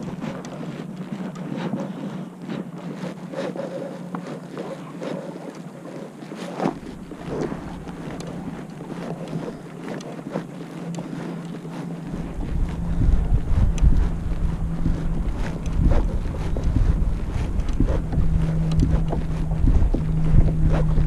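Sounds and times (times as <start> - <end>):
water moving along kayak hull: 0.0 - 21.0
wind buffeting microphone: 0.0 - 21.0.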